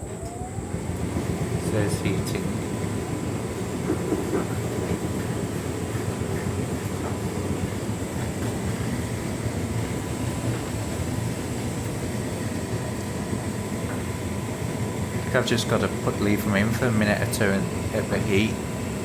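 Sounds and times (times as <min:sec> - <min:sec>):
tumble dryer drum rumbling: 0:00.0 - 0:19.0
warm air blowing: 0:00.0 - 0:19.0.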